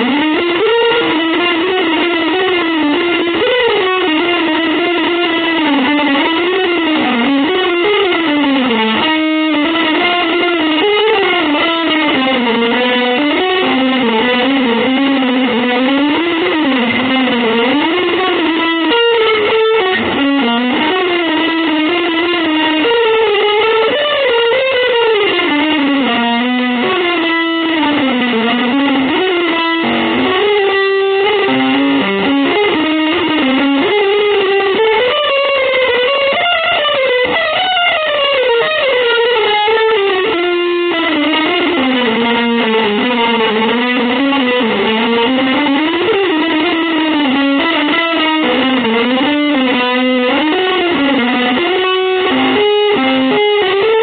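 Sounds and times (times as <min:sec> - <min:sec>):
electric guitar sliding melody: 0:00.0 - 0:54.0.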